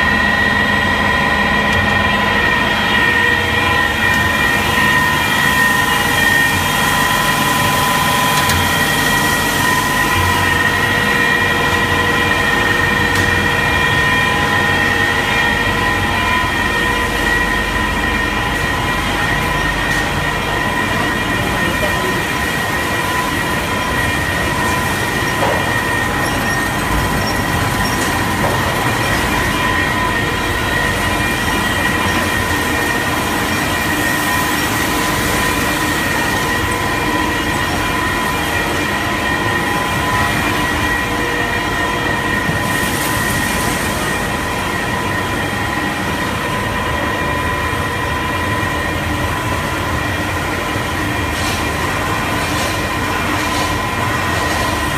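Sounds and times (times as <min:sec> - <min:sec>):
constant high whine: 0:00.0 - 0:54.9
production line machinery noise: 0:00.0 - 0:54.9.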